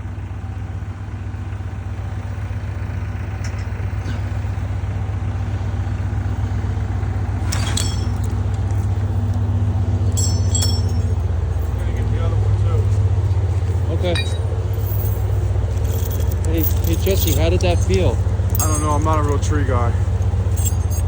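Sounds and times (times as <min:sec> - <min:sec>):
engine idling with low hum: 0:00.0 - 0:21.0.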